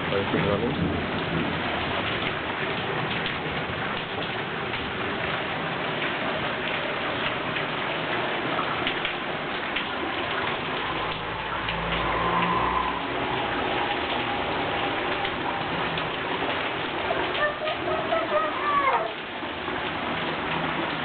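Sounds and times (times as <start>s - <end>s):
steady rain pattering: 0.0s - 21.0s
water drips: 0.0s - 21.0s.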